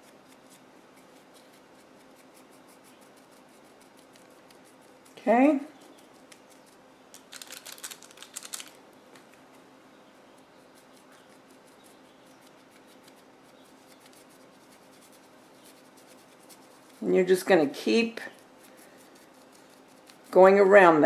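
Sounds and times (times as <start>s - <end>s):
paintbrush scratching on clay: 0.0s - 6.9s, 9.5s - 21.0s.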